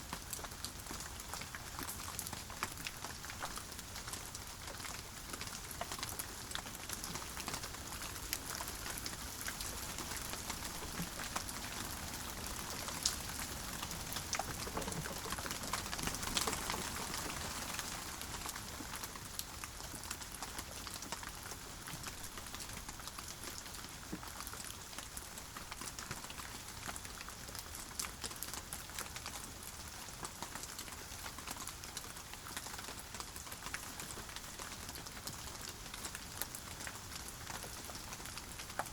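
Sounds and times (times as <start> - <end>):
rain drops ticking on a surface: 0.0 - 38.9.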